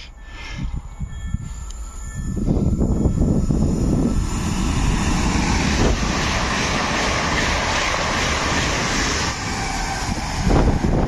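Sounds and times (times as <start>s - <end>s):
train wheels rushing on rail: 0.0s - 11.0s
wind buffeting microphone: 0.5s - 11.0s.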